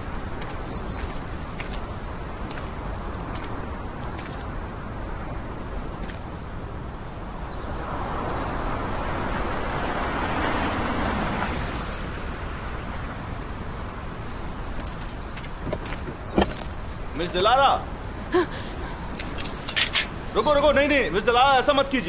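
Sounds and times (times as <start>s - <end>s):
car engine and tyre noise: 0.0s - 18.2s
wind rumble: 0.0s - 22.0s.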